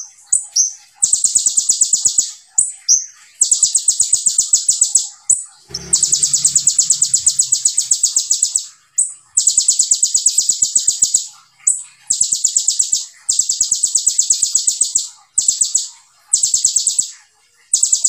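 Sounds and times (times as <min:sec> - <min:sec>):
bird singing rapid trills: 0:00.0 - 0:18.0.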